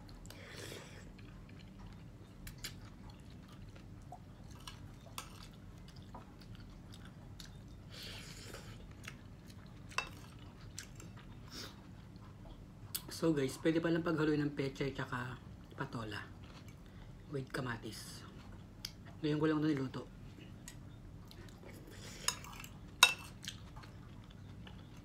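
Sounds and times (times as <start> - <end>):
man chewing food: 0.0 - 13.2, 15.4 - 17.3, 18.0 - 19.2, 20.1 - 25.0.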